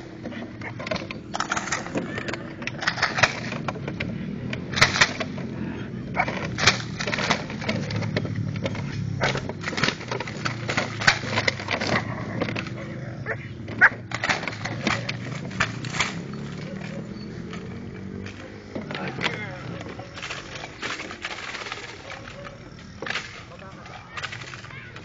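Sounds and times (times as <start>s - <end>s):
plastic bottles crackling and clattering: 0.0s - 25.0s.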